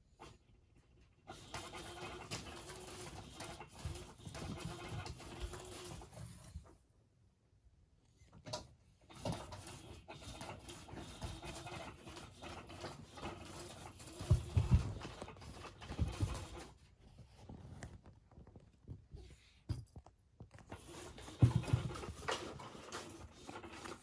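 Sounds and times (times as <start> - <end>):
cats rustling and pattering: 1.3 - 6.8, 9.1 - 24.0.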